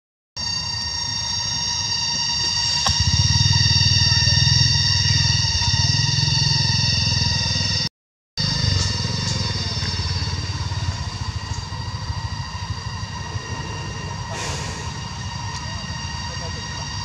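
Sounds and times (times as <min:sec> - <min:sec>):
high whine: 0:00.4 - 0:17.0
small engine running: 0:00.5 - 0:17.0.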